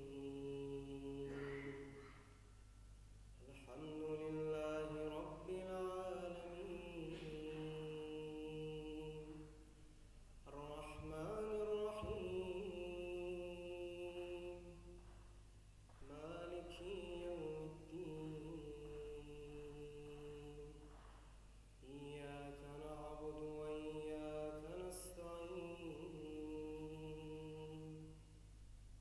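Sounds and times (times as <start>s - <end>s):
man chanting melodically: 0.0s - 2.3s, 3.4s - 9.7s, 10.4s - 15.0s, 16.0s - 20.9s, 21.8s - 28.2s
steady low hum: 0.0s - 29.0s.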